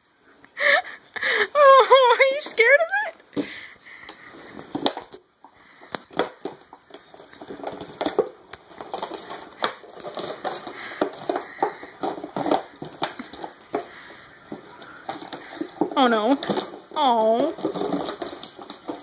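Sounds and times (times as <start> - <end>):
puppy claws on hard floor: 3.2 - 19.0.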